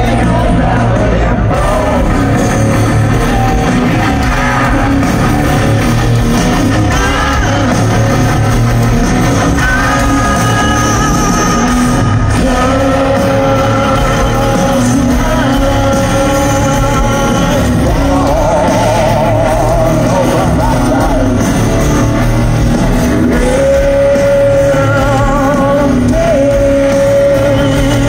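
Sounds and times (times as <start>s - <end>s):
person singing: 0.0s - 5.7s, 6.4s - 22.0s, 23.1s - 28.0s
distorted electric guitars: 0.0s - 28.0s
drums: 0.0s - 28.0s.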